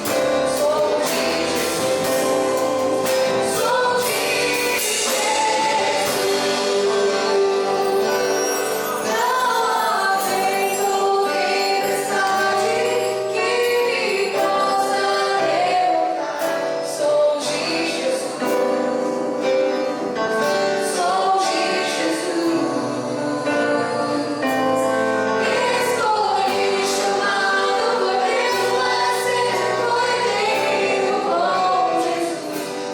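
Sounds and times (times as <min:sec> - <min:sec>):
instrumental accompaniment: 0:00.0 - 0:32.9
voices singing gospel song: 0:00.0 - 0:32.9.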